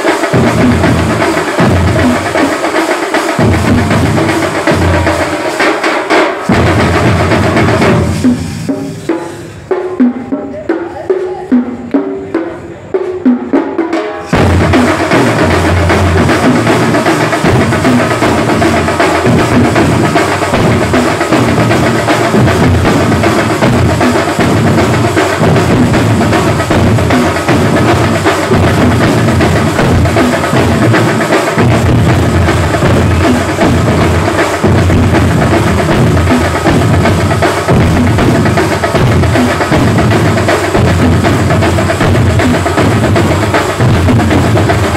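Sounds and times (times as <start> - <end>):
barrel drums beaten fast: 0.0 - 44.9.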